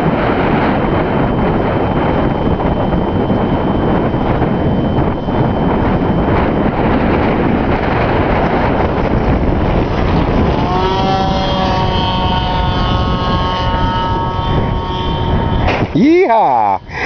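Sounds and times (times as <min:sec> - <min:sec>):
heavy wind buffeting microphone: 0:00.0 - 0:17.0
model airplane engine high-pitched: 0:00.0 - 0:17.0.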